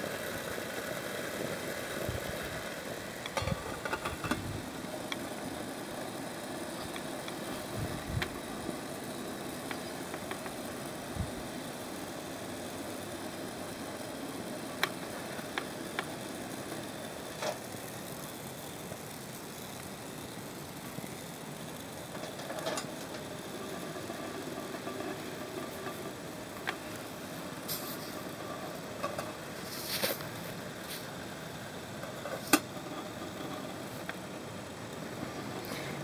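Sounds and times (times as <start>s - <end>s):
water boiling in a pot: 0.0s - 36.0s.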